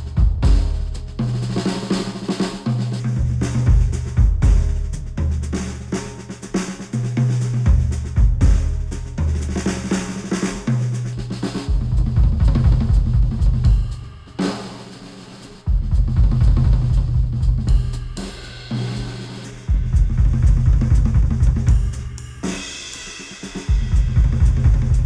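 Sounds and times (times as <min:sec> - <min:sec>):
music with drums and bass: 0:00.0 - 0:25.0.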